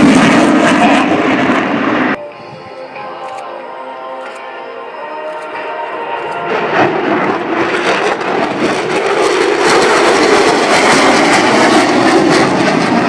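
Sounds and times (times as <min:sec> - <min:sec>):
jet engines passing fast: 0:00.0 - 0:13.0.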